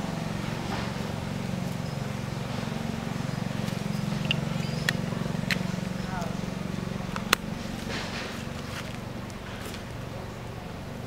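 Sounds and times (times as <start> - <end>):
low pulsing mechanical hum: 0.0 - 11.0.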